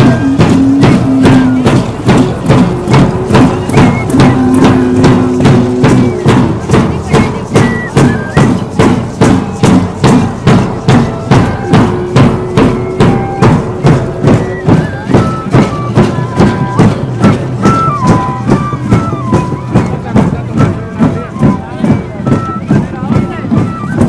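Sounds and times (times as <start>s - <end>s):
large wooden drums beating: 0.0s - 24.0s.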